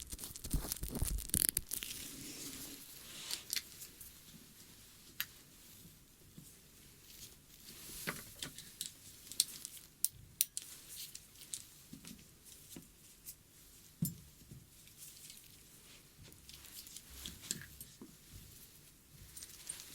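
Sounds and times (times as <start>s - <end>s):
soft scratching and rubbing: 0.0s - 10.0s, 10.6s - 19.9s.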